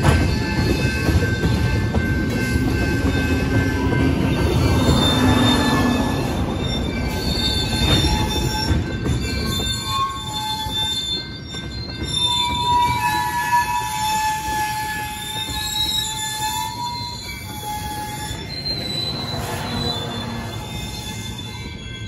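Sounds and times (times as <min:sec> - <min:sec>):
train wheels rumbling on rail: 0:00.0 - 0:22.0
train wheels squealing: 0:00.0 - 0:22.0.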